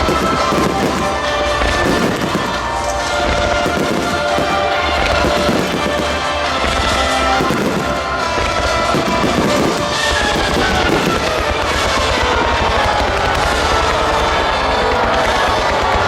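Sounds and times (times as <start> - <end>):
fireworks shells bursting: 0.0 - 14.2
music playing: 0.0 - 16.0.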